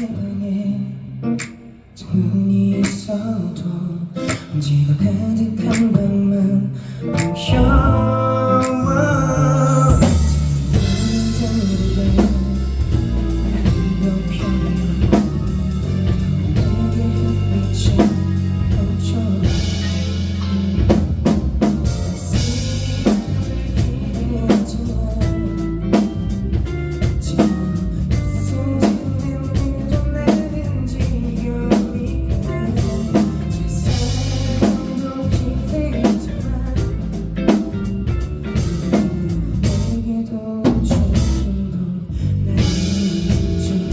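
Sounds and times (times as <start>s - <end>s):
rock band playing: 6.8s - 43.9s.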